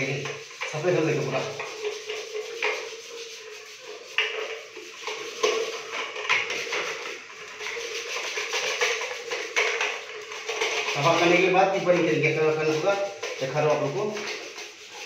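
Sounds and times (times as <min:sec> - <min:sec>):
scrubbing and scraping plastic: 0:00.0 - 0:15.0.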